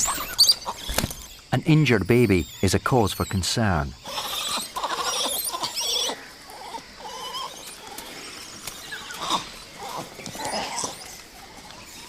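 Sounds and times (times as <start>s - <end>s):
monkeys calling: 0.0s - 12.0s.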